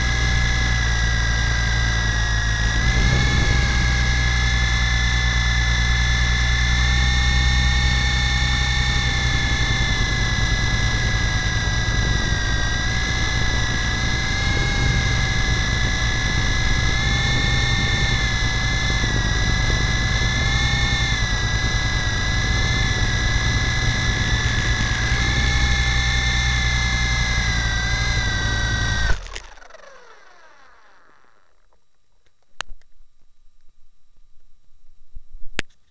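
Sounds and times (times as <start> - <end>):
helicopter motors whining: 0.0 - 31.8
low buzz: 0.0 - 35.6.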